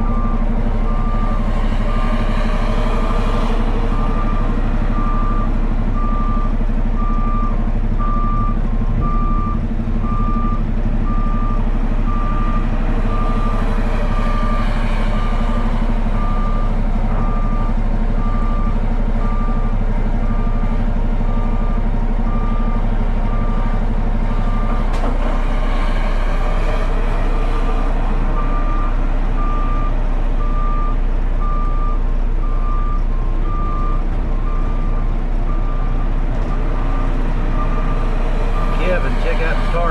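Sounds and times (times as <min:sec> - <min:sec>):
heavy machine engine drone: 0:00.0 - 0:39.9.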